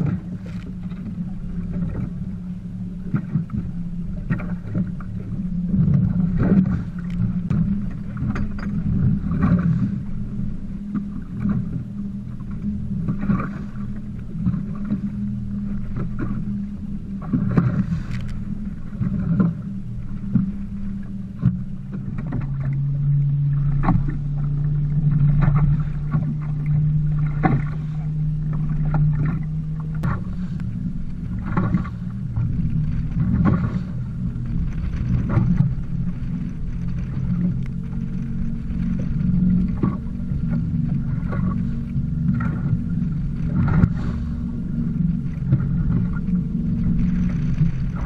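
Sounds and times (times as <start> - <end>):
steady low hum: 0.0 - 48.0
waves slapping boat hull: 0.0 - 48.0.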